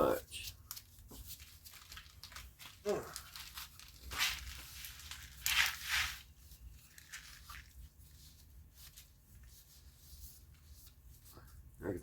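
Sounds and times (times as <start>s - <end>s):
scraping rustle of engine parts: 1.3s - 11.5s.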